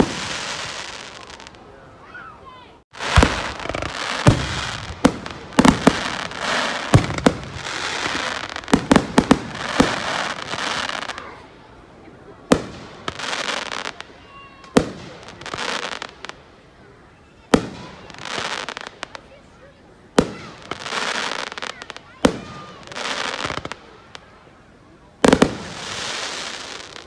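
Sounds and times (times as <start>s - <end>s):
fireworks bangs: 0.0s - 1.7s, 2.9s - 11.5s, 12.4s - 16.4s, 17.4s - 19.3s, 20.1s - 24.4s, 25.2s - 27.0s
fireworks hiss: 0.0s - 1.7s, 2.9s - 11.7s, 12.4s - 16.6s, 17.5s - 19.4s, 20.1s - 24.5s, 25.2s - 27.0s.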